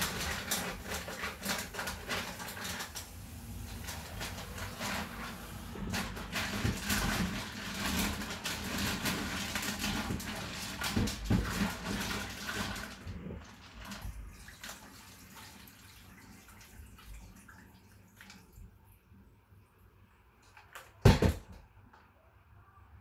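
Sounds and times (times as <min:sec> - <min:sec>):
tap water running: 0:00.0 - 0:19.1.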